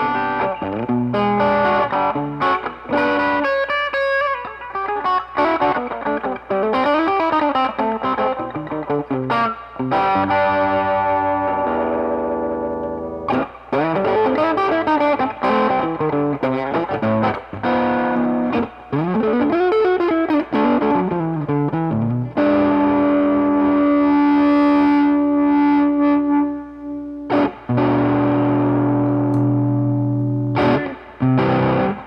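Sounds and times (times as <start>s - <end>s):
distorted electric guitar: 0.0s - 32.0s.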